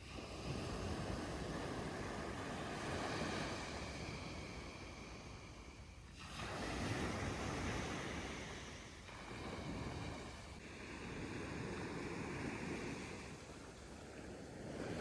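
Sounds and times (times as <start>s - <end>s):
waves breaking on a beach: 0.0s - 15.0s.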